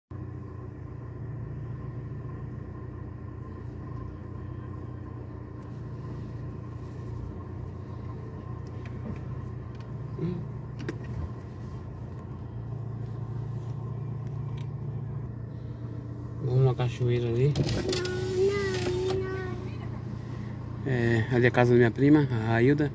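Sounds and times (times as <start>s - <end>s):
car engine humming in cabin: 0.1s - 22.9s.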